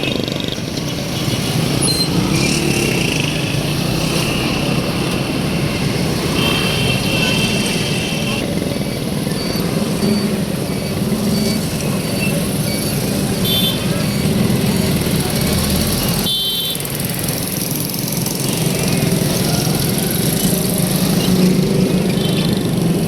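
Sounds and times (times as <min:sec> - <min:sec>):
motorbike and car engines passing: 0:00.0 - 0:23.0.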